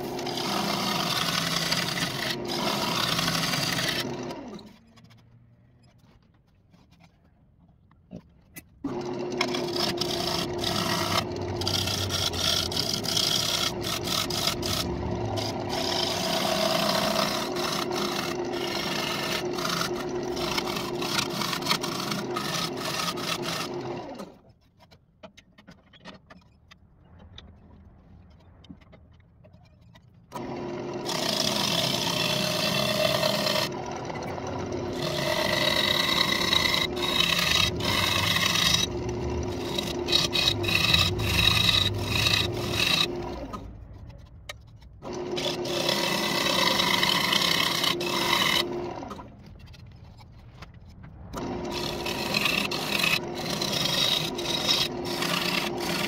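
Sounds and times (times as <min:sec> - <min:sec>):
lathe gouge scraping wood: 0:00.0 - 0:05.2, 0:08.9 - 0:24.4, 0:30.3 - 0:50.8, 0:51.4 - 0:56.0.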